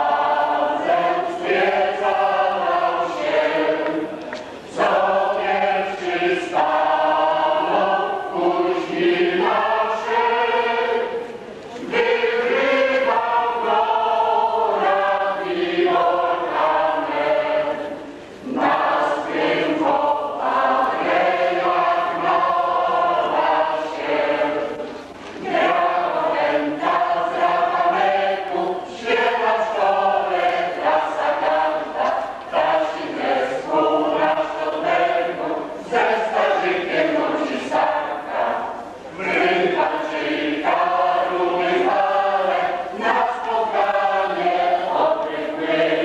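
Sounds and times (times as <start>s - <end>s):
mixed choir singing a waltz: 0.0s - 46.0s.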